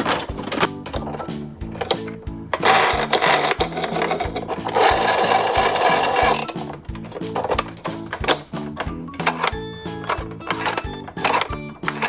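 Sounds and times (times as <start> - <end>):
background music: 0.0 - 12.0
plastic toy rubbing and scraping: 0.0 - 12.0.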